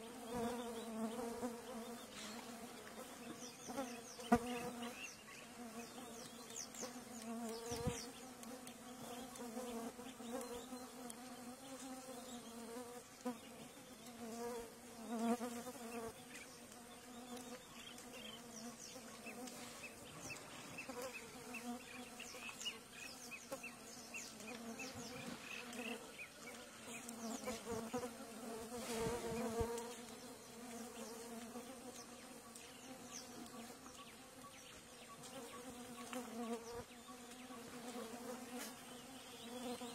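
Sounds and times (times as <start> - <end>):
flying insects buzzing: 0.0 - 39.9.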